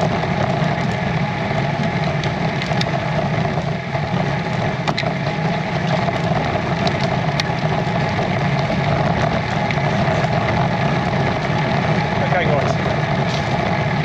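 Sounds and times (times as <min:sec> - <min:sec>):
bicycle tyre noise: 0:00.0 - 0:14.0.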